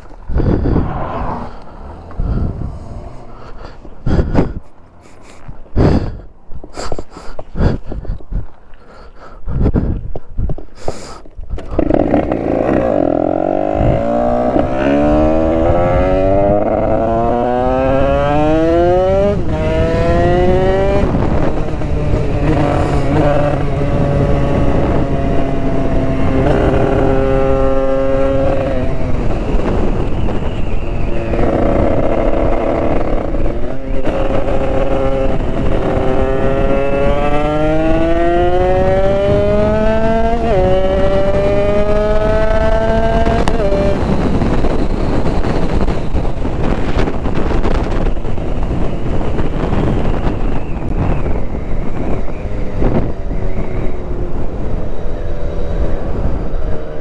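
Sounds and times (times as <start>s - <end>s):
moped engine accelerating: 0.0s - 6.7s, 11.6s - 57.0s.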